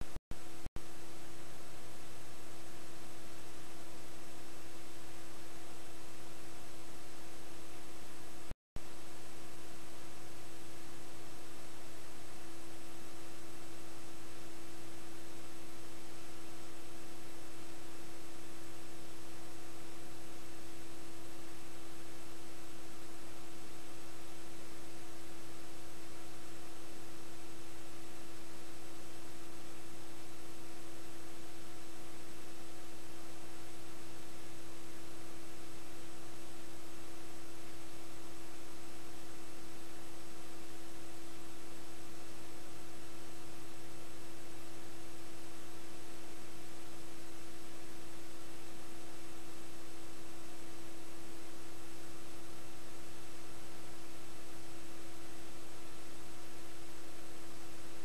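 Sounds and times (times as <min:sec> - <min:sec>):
electronic hum with hiss: 0:00.0 - 0:58.0.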